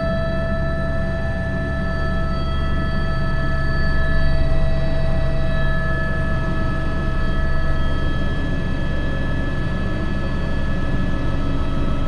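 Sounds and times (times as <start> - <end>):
helicopter engine whine: 0.0 - 12.0.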